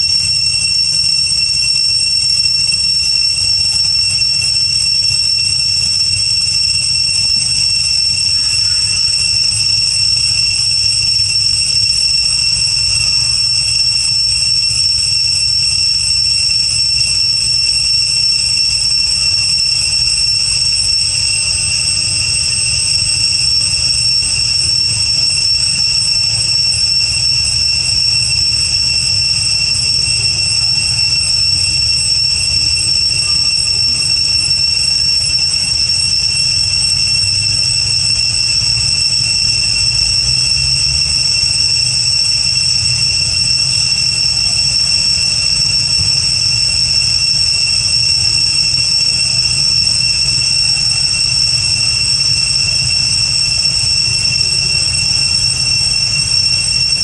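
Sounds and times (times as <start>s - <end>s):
cicadas droning: 0.0s - 57.0s.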